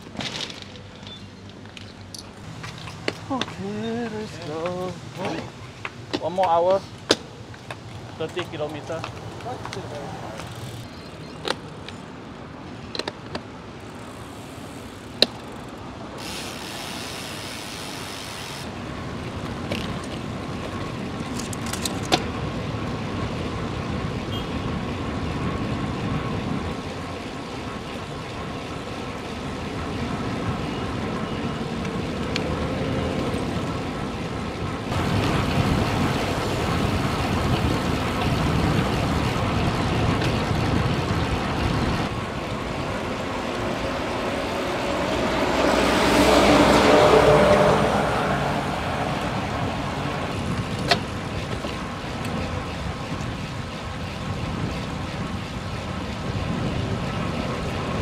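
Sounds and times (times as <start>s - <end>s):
road traffic rushing: 0.0s - 58.0s.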